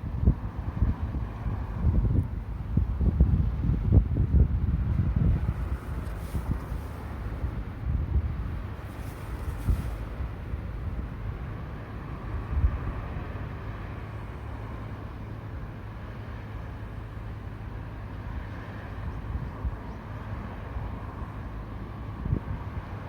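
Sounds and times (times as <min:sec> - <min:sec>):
road traffic passing: 0:00.0 - 0:23.0
wind buffeting microphone: 0:00.0 - 0:23.0.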